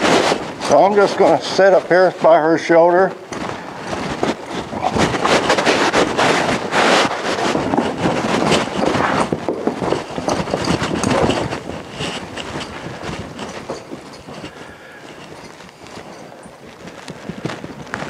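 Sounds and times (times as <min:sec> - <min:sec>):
feet shuffling on ground: 0:00.0 - 0:18.0
horse hooves stomping: 0:00.0 - 0:18.0.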